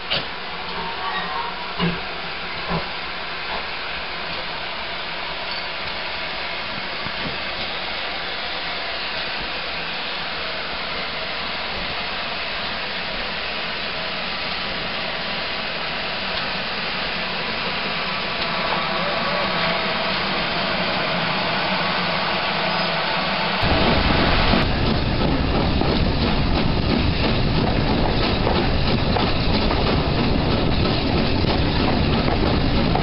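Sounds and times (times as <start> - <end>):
steam locomotive hissing steam: 0.0 - 33.0.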